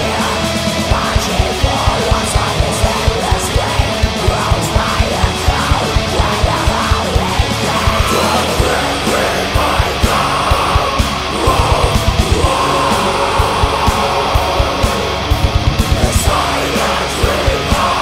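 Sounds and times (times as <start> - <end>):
black metal band playing: 0.0 - 18.0
harsh yelled vocals: 0.0 - 18.0.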